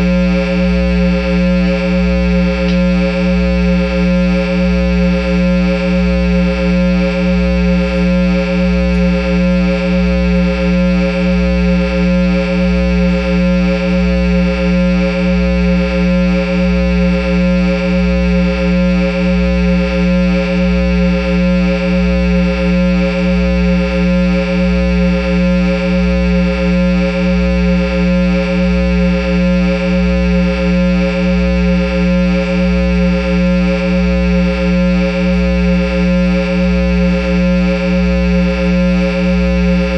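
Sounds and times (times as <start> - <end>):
guitar amplifier electrical hum: 0.0 - 39.9
low pulsing throb: 0.0 - 39.9.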